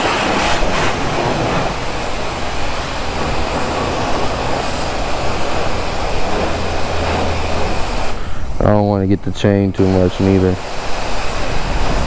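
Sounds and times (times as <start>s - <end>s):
high-pressure water spray hissing: 0.0s - 12.0s.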